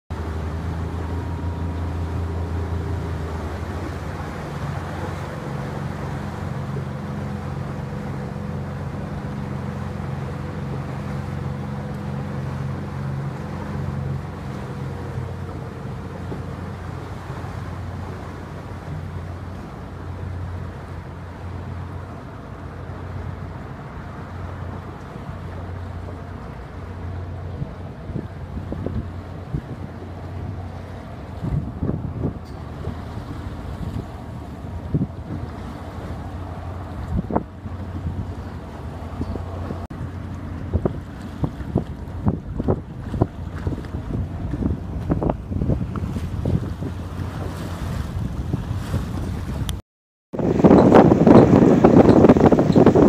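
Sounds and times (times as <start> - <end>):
wind: 0.0 - 53.0
boat engine humming: 0.1 - 53.0
water noise: 0.1 - 53.0.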